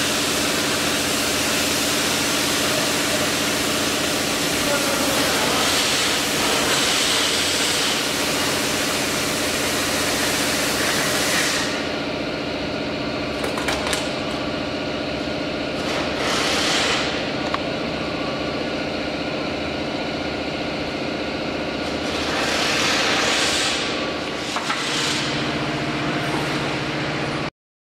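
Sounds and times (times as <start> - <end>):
machine hum: 0.0 - 27.5.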